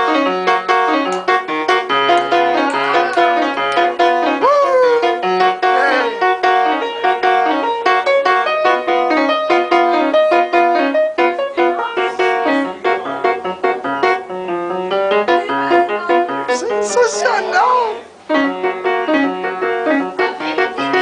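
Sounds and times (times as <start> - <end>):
lively piano playing: 0.0 - 21.0.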